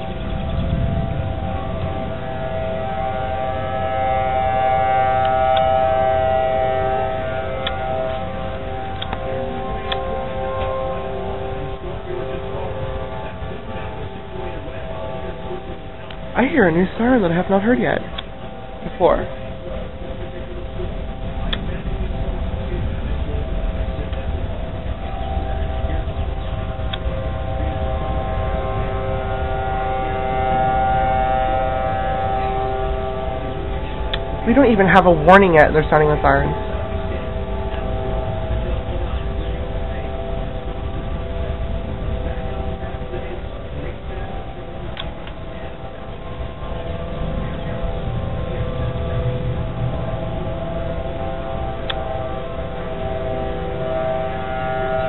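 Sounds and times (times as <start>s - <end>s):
rotating siren sweeping: 0.0s - 55.0s
warning sirens steady tones: 0.0s - 55.0s.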